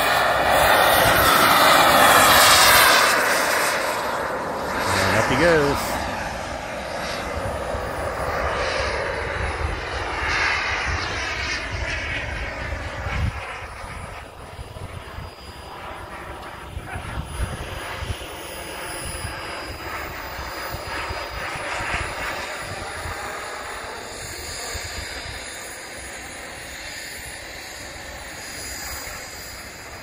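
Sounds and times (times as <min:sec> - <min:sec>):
model airplane engine flying: 0:00.0 - 0:30.0.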